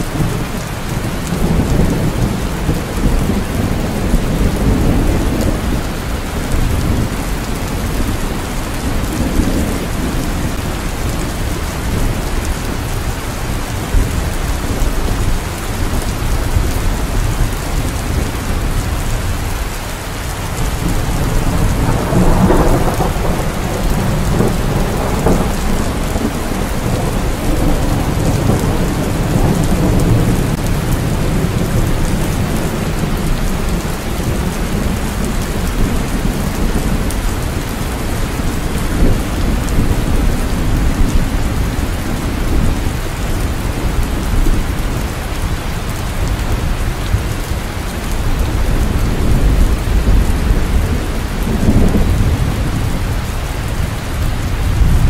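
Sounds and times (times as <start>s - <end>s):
rolling thunder: 0.0s - 55.0s
steady rain: 0.0s - 55.0s.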